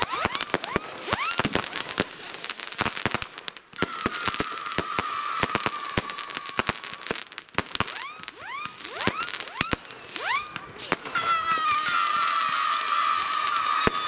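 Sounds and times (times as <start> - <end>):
rocket whistling upward: 0.0 - 2.8, 3.7 - 14.0
fireworks banging: 0.0 - 14.0
whistling firework: 0.0 - 14.0.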